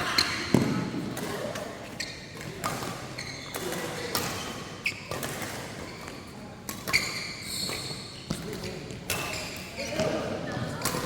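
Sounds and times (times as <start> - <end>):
shoes squeaking on court: 1.3 - 10.2.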